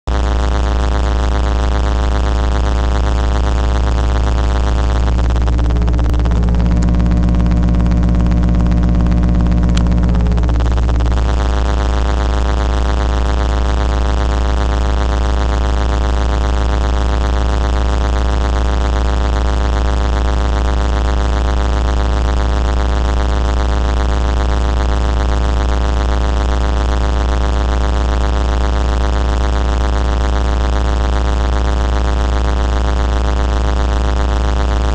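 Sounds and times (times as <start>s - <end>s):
loud electrical buzz: 0.1s - 34.9s.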